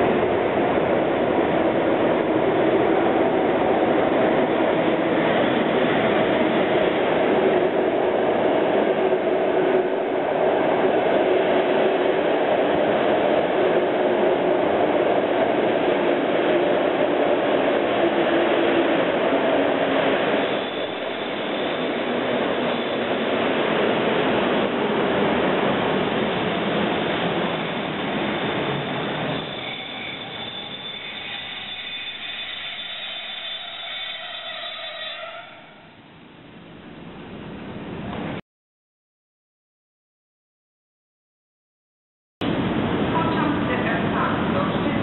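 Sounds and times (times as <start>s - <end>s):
train wheels rumbling on track: 0.0s - 35.9s, 42.4s - 45.0s.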